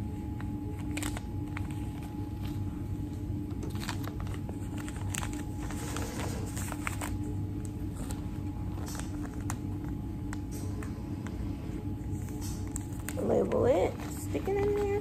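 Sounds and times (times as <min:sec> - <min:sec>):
steady low hum: 0:00.0 - 0:15.0
packaging crinkling: 0:00.3 - 0:11.2, 0:12.0 - 0:15.0.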